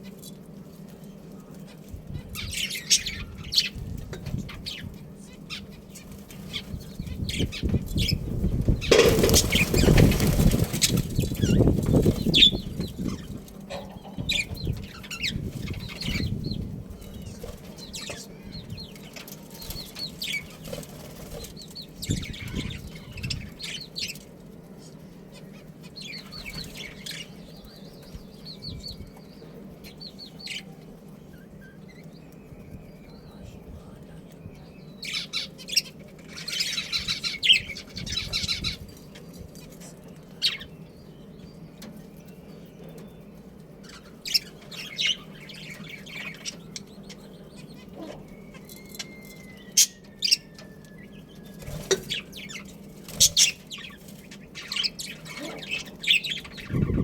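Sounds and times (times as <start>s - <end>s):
budgerigars chirping and chattering: 0.0s - 57.0s
low steady hum: 0.0s - 57.0s.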